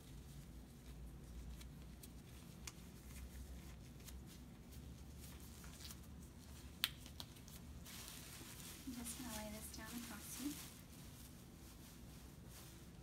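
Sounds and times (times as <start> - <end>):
gloves rustling: 0.0 - 13.0
room hum: 0.0 - 13.0.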